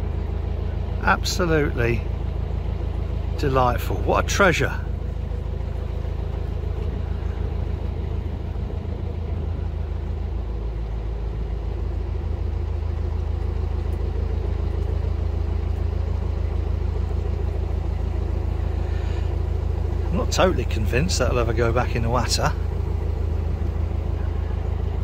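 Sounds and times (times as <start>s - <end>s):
boat diesel engine droning: 0.0s - 25.0s.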